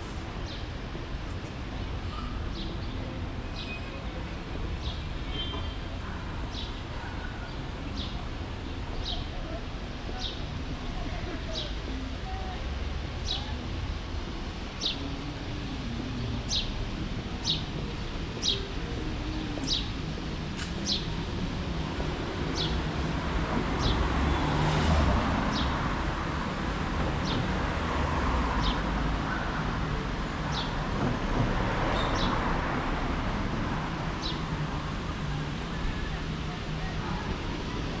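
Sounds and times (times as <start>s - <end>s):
low hum of city traffic: 0.0s - 38.0s.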